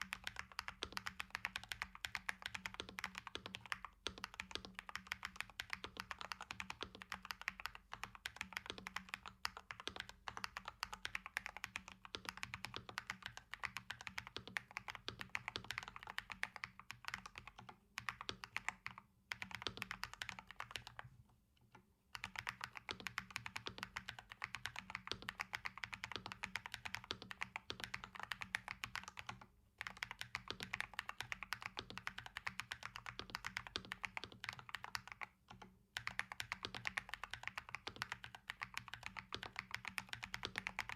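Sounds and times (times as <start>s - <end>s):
fast mechanical keyboard typing: 0.0s - 21.0s, 22.2s - 40.9s.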